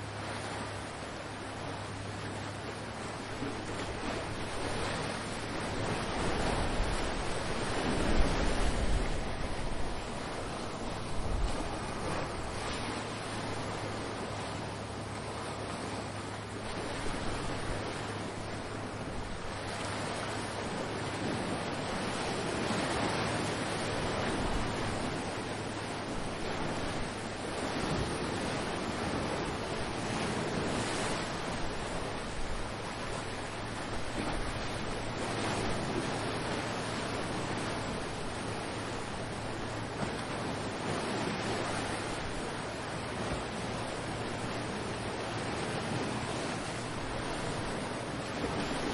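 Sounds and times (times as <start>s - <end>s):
waves breaking on shore: 0.0s - 48.9s.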